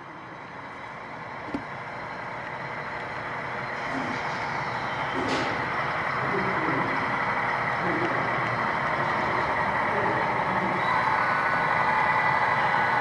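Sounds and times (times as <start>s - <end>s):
model locomotive engine rumble: 0.0s - 13.0s.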